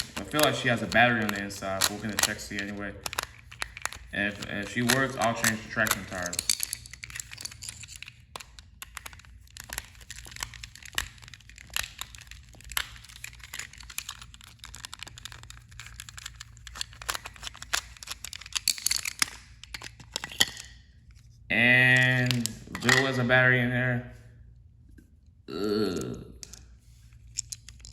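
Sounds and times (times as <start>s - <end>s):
plastic toy clicks and rattles: 0.0s - 20.8s, 22.0s - 23.2s, 27.3s - 27.9s.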